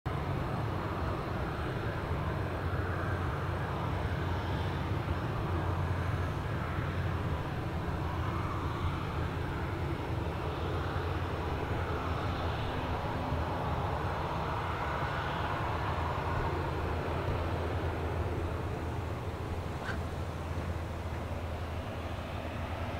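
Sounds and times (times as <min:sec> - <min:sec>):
jet engines rumbling at low thrust: 0:00.1 - 0:22.9.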